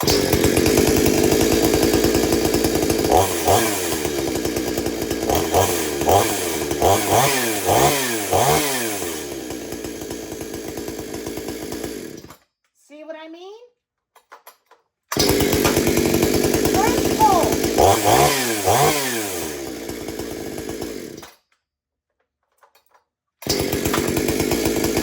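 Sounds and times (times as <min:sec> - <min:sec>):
chainsaw revving and idling: 0:00.0 - 0:12.4, 0:15.1 - 0:21.4, 0:23.4 - 0:25.0.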